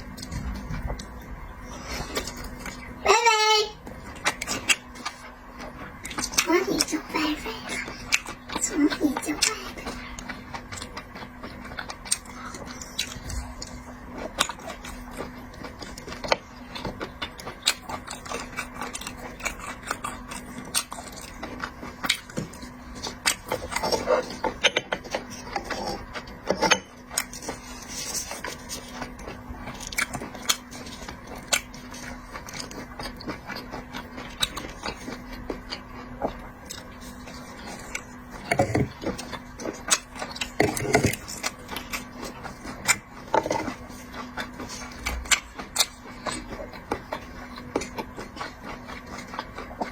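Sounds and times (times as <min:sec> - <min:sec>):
biting and chewing: 0:00.0 - 0:03.0, 0:03.8 - 0:49.9
low hum: 0:00.0 - 0:49.9.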